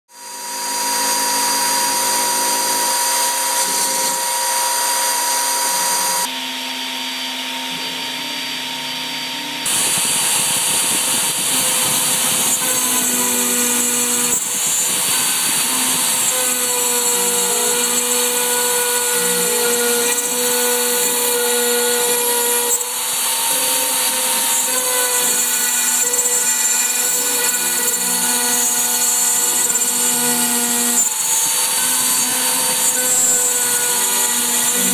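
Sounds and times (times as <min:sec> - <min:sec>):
cnc router cutting plywood: 0:00.1 - 0:34.9.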